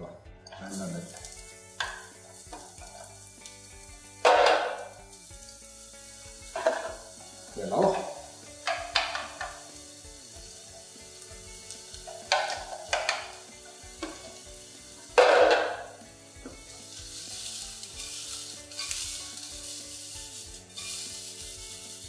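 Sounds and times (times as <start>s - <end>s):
faint background music: 0.0s - 22.0s
frying pan scraping: 0.7s - 5.2s, 6.0s - 22.0s
vegetables sizzling in oil: 0.7s - 22.0s.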